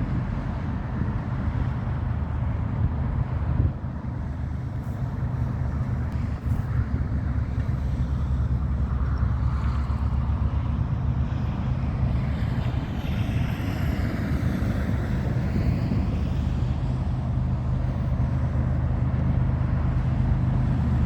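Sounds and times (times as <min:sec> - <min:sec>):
diesel locomotives rumbling: 0:00.0 - 0:21.0.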